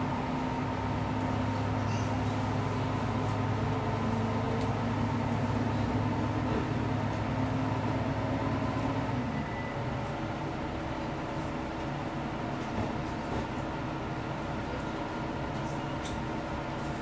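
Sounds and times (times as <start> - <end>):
railcar diesel engine humming: 0.0 - 17.0.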